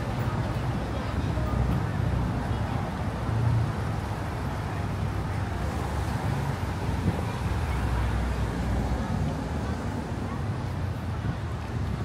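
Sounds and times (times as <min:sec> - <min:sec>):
traffic rumble on city street: 0:00.0 - 0:12.0.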